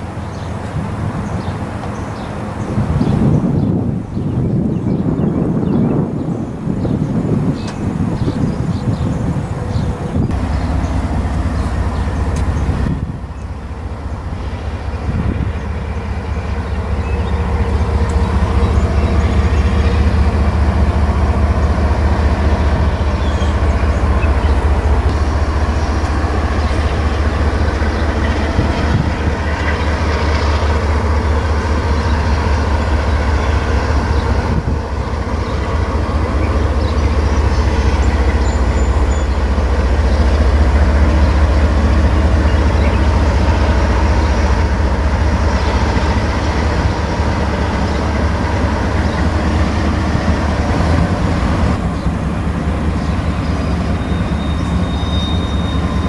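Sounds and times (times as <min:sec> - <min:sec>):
locomotive engines droning: 0:00.0 - 0:56.0.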